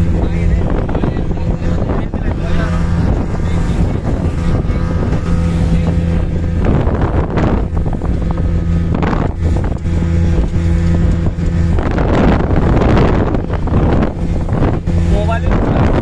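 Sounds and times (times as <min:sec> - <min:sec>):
motorboat engine running: 0:00.0 - 0:16.0
wind buffeting microphone: 0:00.0 - 0:16.0.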